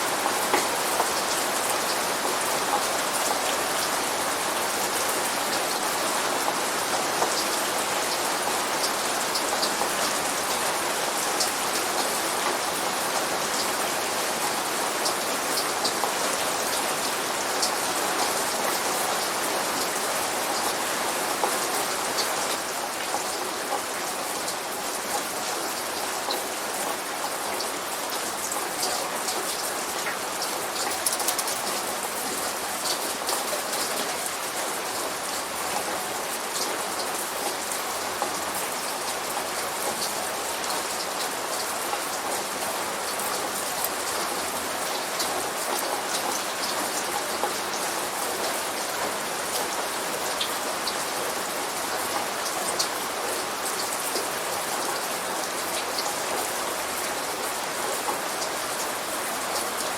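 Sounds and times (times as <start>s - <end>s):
light rain falling: 0.0s - 59.9s
raindrops ticking on a surface: 0.0s - 59.9s.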